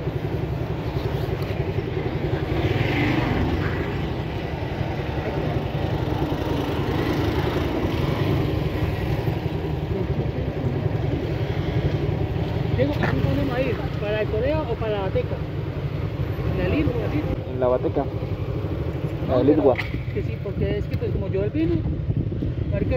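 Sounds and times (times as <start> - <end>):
motorcycle engine running: 0.0 - 22.9
wind and road noise: 0.0 - 22.9.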